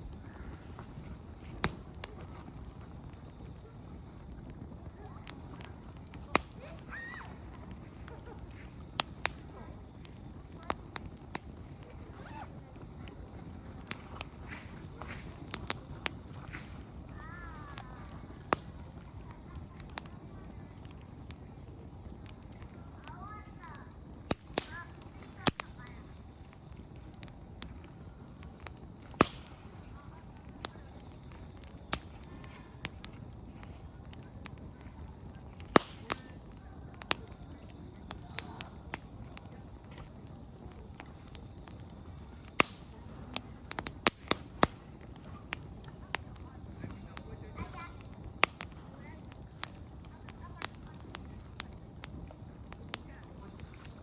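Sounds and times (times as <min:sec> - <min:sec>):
campfire crackling and popping: 0:00.0 - 0:54.0
distant children's voices: 0:00.0 - 0:54.0.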